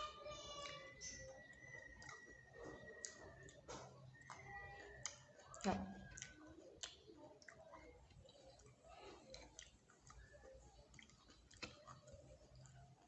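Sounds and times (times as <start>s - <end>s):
mouth clicks: 0.6s - 12.8s
chewing chips: 0.6s - 13.0s.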